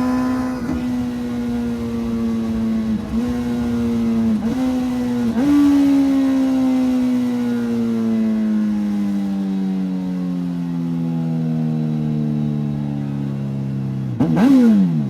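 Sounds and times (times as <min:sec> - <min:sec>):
motorcycle engine decelerating: 0:00.0 - 0:15.0.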